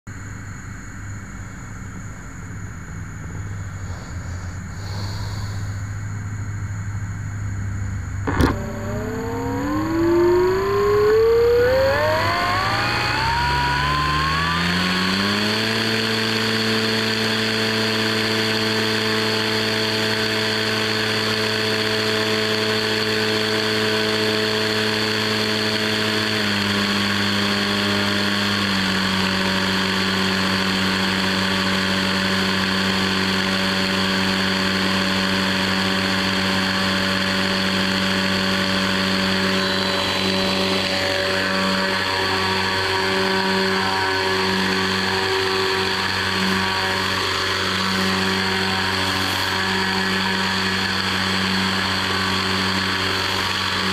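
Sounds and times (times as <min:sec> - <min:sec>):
muffled electric motor and propeller hum: 0:00.1 - 0:53.9.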